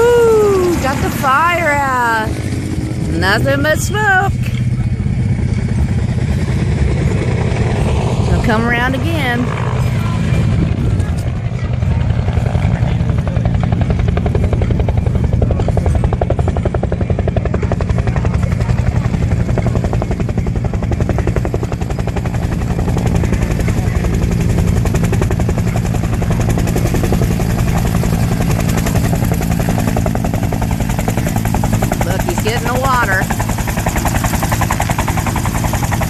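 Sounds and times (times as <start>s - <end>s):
helicopter engine noise: 0.0s - 36.0s
helicopter rotor blades chopping: 0.0s - 36.0s.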